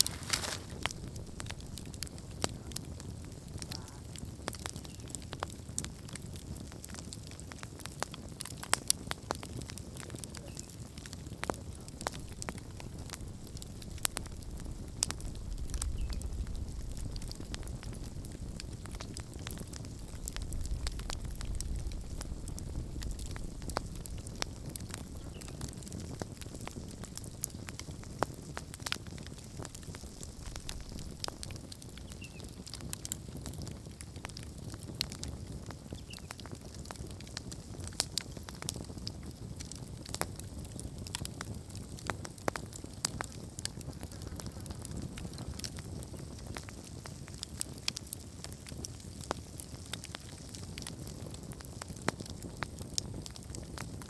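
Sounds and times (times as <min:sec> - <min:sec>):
campfire crackling and popping: 0:00.0 - 0:54.0
low fire rumble: 0:00.0 - 0:54.0.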